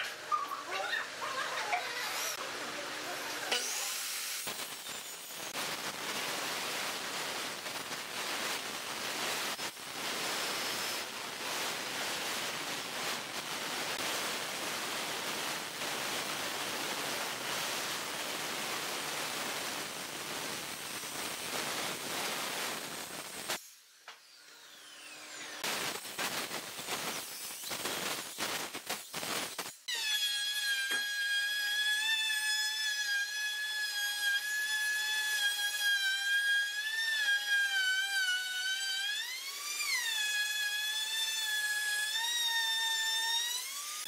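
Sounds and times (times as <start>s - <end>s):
circular saw cutting wood: 0.1s - 14.0s, 15.6s - 28.4s, 29.0s - 44.0s.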